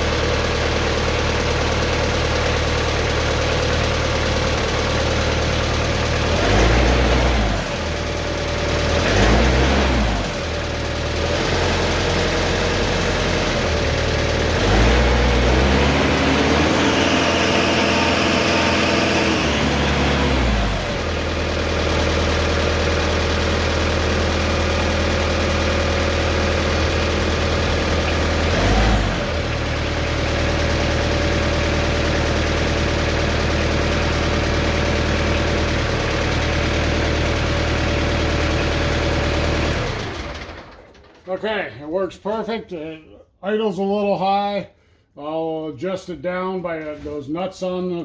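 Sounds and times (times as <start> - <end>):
tractor engine revving and idling: 0.0 - 44.6.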